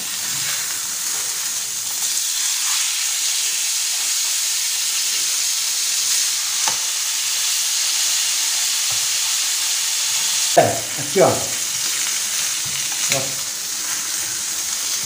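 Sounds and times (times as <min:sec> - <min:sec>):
steaks sizzling in grill pan: 0:00.0 - 0:15.0.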